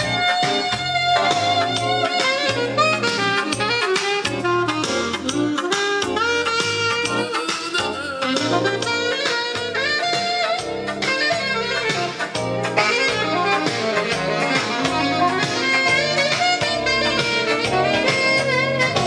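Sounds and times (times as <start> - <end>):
music from a vinyl record: 0.0 - 19.0.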